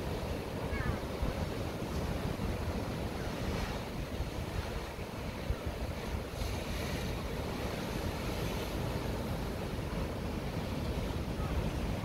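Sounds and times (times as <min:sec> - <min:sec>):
sea surf breaking over rocks: 0:00.0 - 0:12.0
wind buffeting microphone: 0:00.0 - 0:12.0.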